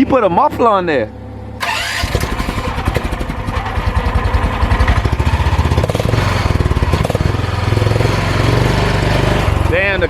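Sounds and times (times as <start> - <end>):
small engine puttering: 1.6 - 9.9.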